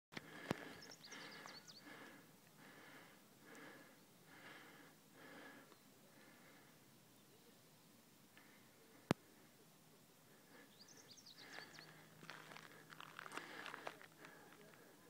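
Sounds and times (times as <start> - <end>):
person breathing heavily: 0.2 - 6.8, 8.4 - 15.0.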